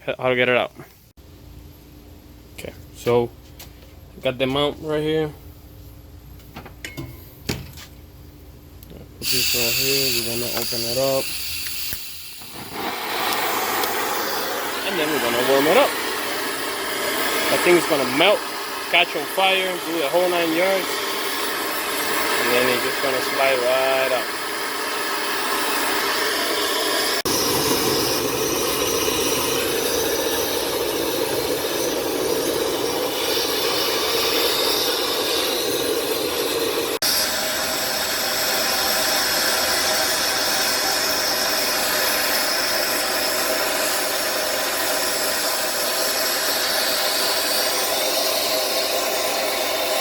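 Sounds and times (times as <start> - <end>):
heat gun blowing: 9.2 - 50.0.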